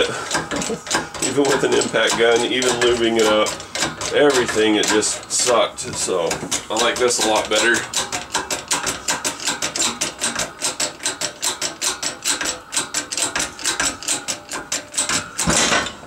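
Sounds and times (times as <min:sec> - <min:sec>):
hydraulic jack pump clicking: 0:00.0 - 0:16.0.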